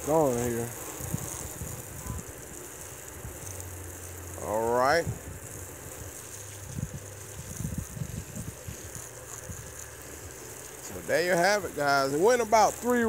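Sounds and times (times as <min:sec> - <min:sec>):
wind buffeting microphone: 0:00.1 - 0:03.7, 0:04.9 - 0:13.0.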